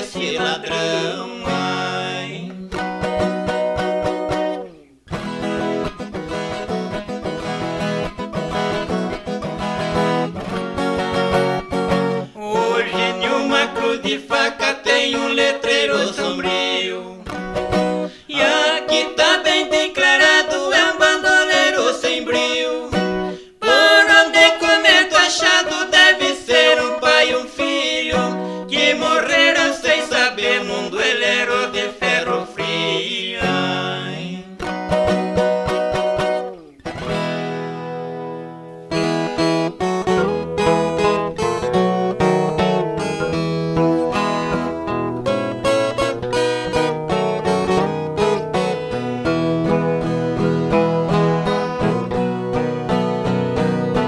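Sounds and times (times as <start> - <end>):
plucked strings over bass line: 0.0 - 27.3, 28.1 - 54.0
viola and acoustic guitar music: 0.0 - 54.0.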